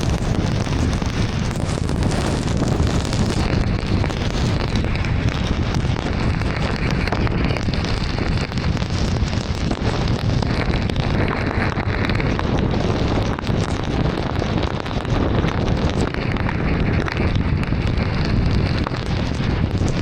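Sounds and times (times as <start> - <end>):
heavy rain on a car: 0.0 - 20.0
pattering of raindrops: 0.0 - 20.0.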